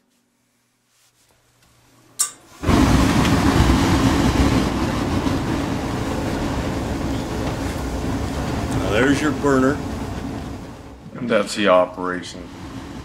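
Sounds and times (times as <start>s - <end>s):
gas burner flame rushing: 2.2s - 13.0s.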